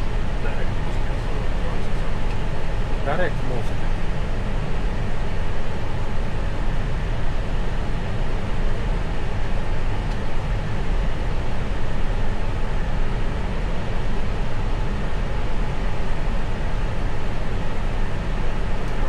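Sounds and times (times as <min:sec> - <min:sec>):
airliner cockpit engine roar: 0:00.0 - 0:19.0.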